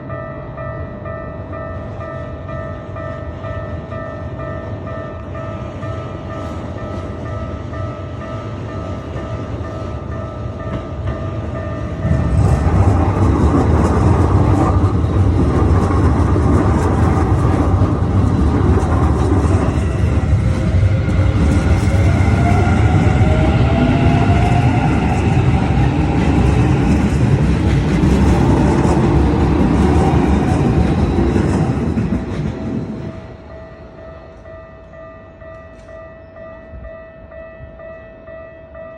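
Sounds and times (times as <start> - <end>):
train rumble and rail clatter: 0.0 - 38.9.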